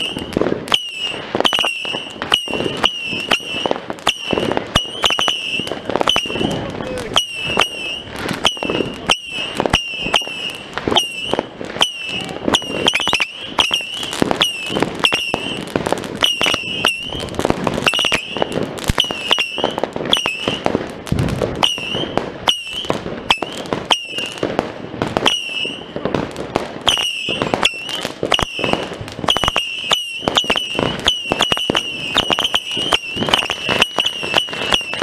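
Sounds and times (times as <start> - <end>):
fireworks and firecrackers banging: 0.0 - 35.0.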